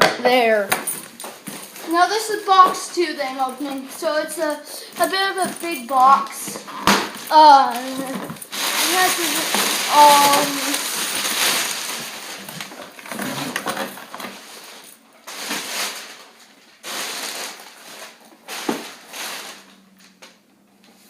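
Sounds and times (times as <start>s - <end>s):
packaging rustling and scraping: 0.5s - 20.2s.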